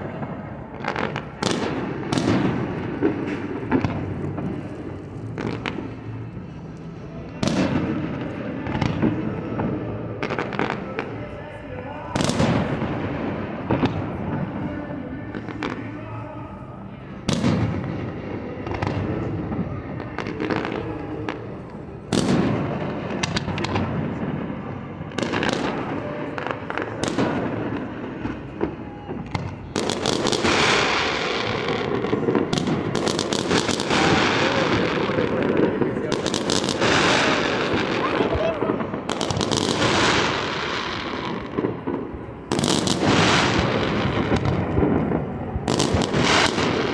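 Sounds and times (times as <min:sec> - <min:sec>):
fireworks booming and crackling: 0:00.0 - 0:46.9.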